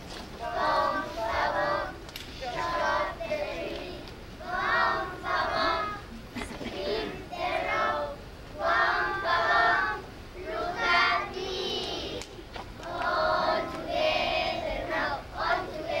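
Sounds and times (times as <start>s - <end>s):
children singing in unison: 0.4s - 16.0s.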